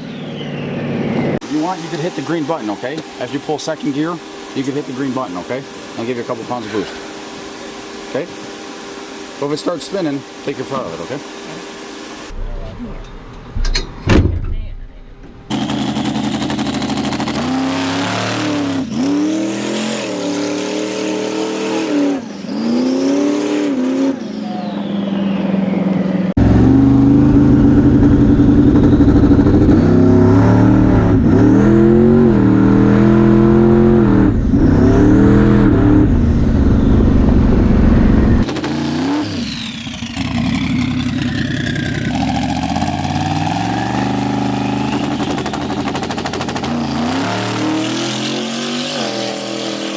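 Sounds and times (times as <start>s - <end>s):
drag car engine at full throttle: 0.6s - 12.4s, 15.4s - 49.9s.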